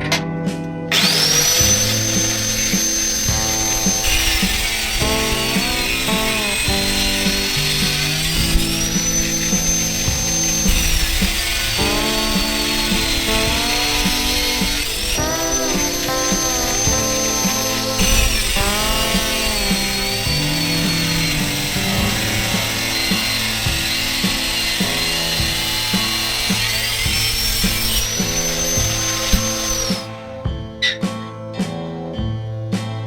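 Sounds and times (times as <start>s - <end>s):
background music: 0.0s - 33.0s
power tool motor whine: 0.9s - 30.2s.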